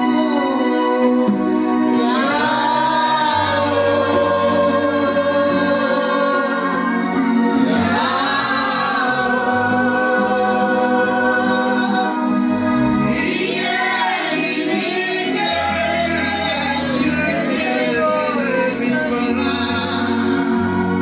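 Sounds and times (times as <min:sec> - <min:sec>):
gospel choir singing: 0:00.0 - 0:21.0
low accompaniment: 0:00.0 - 0:21.0.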